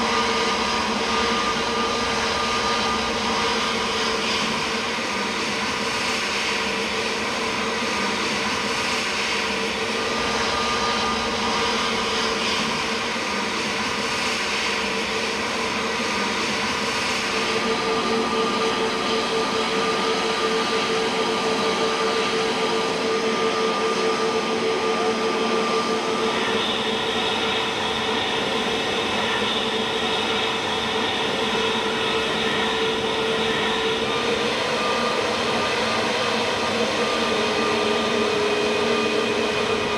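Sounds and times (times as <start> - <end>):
high-pitched whine: 0.0 - 39.9
jet engines running: 0.0 - 39.9.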